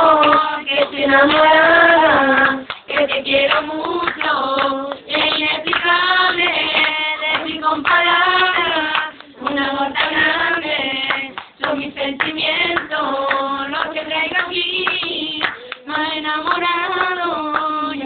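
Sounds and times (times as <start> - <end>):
girls singing together: 0.0 - 18.0
rhythmic hand clapping: 0.0 - 18.0.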